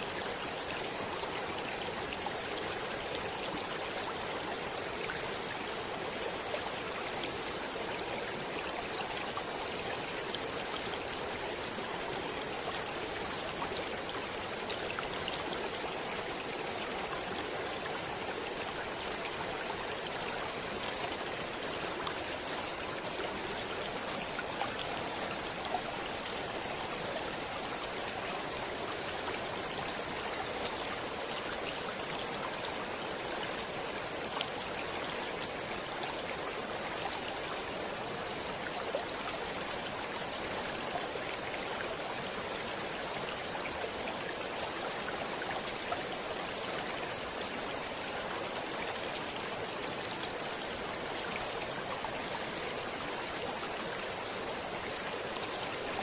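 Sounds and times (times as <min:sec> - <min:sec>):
stream running over stones: 0:00.0 - 0:56.0
water splashes and trickles: 0:00.0 - 0:56.0.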